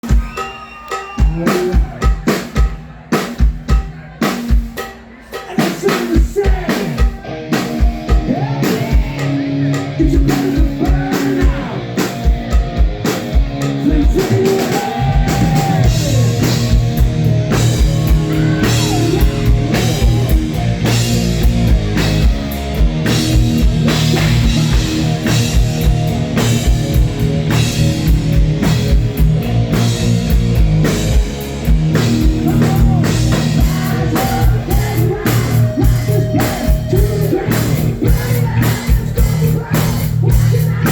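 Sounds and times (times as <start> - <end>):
drum kit beat: 0.0 - 40.9
live rock band playing: 0.0 - 40.9.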